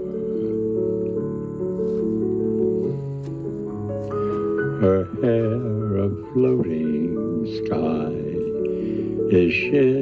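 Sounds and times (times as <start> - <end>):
keyboard playing held chords: 0.0 - 10.0.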